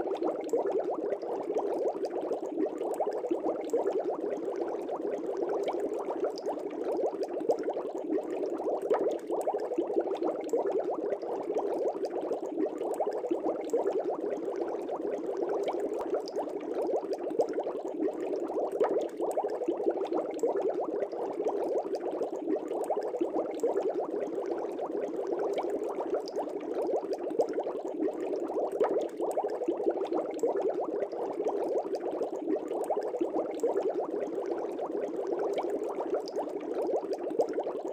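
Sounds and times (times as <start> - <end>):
fish tank bubbling: 0.0 - 37.9.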